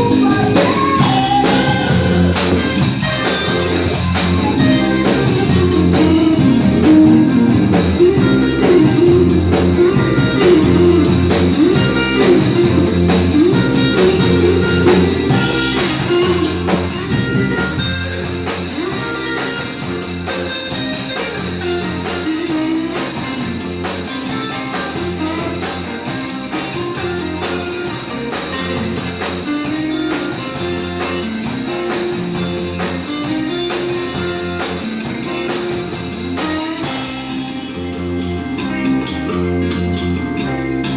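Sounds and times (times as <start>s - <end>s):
drums: 0.0s - 40.9s
guitar: 0.0s - 40.9s.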